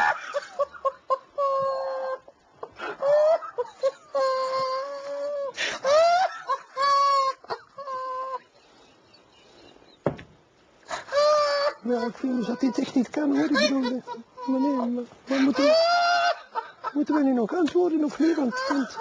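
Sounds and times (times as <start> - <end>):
man laughing with squeals: 0.0 - 9.3, 10.9 - 17.4, 18.0 - 19.0.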